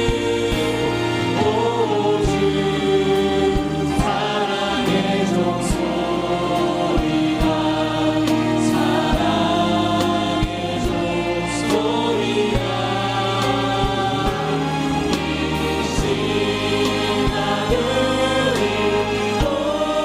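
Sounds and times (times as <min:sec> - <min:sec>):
band playing slow hymn: 0:00.0 - 0:20.0
choir singing: 0:00.0 - 0:20.0
steady drum beat: 0:00.0 - 0:20.0.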